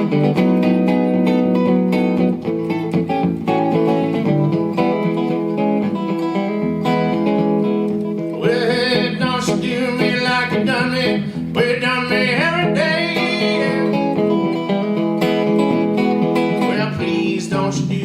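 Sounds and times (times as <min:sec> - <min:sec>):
solo blues guitar: 0:00.0 - 0:18.0.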